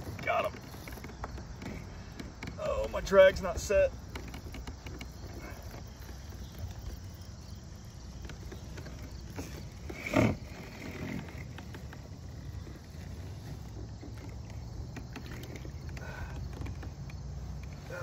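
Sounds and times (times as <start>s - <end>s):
wind: 0.0s - 18.0s.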